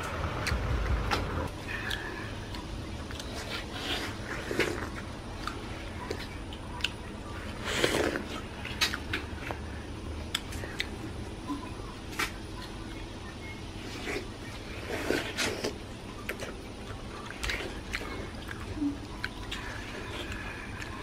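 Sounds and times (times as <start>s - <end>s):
person chewing watermelon: 0.4s - 12.8s, 13.8s - 21.0s.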